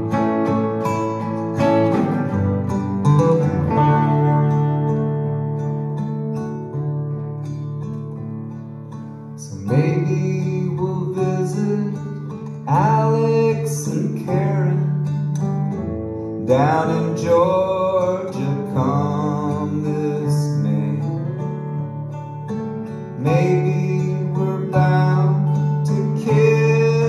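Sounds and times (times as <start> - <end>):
acoustic guitar: 0.0 - 27.0
electric guitar: 0.0 - 27.0.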